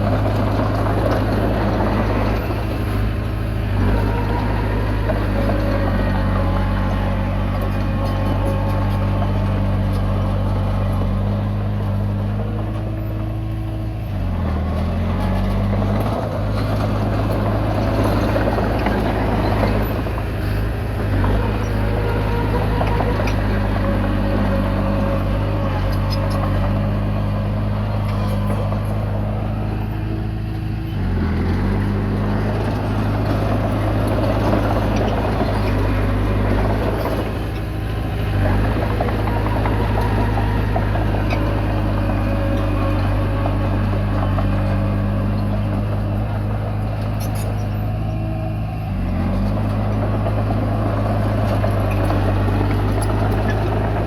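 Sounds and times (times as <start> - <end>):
bulldozer diesel engine under load: 0.0 - 54.0
bulldozer pushing soil: 0.0 - 54.0.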